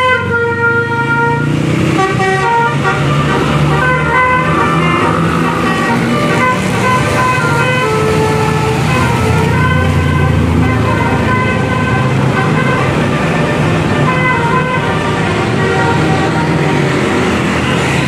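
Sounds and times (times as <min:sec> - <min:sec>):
multi-tone musical bus horn: 0:00.0 - 0:18.0.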